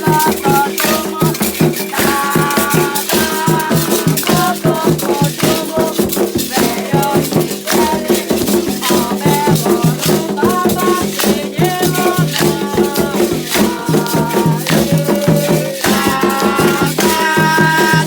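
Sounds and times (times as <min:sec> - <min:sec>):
drums: 0:00.0 - 0:18.0
person singing: 0:00.0 - 0:18.0
rattle shaken in fast rhythm: 0:00.0 - 0:18.0.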